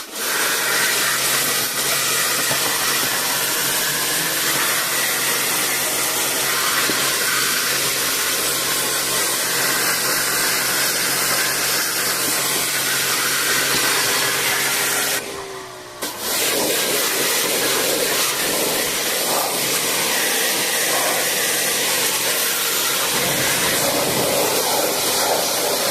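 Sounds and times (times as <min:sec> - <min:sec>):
pressure washer spraying water: 0:00.0 - 0:15.4, 0:16.0 - 0:25.9.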